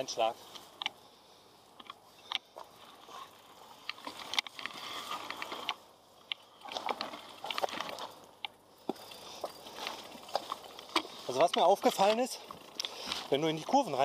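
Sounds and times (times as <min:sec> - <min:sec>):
stones clicking and bike rattling: 0:00.0 - 0:01.0, 0:01.6 - 0:14.0
tyres crunching on stones: 0:01.7 - 0:14.0.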